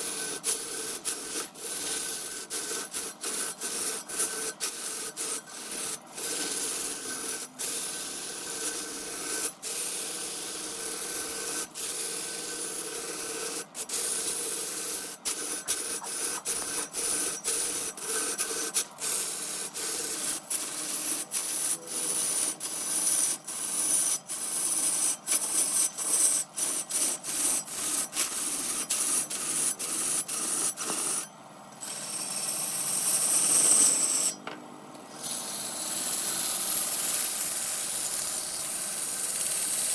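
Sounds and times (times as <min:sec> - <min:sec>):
tool scraping spinning wood: 0:00.0 - 0:39.9.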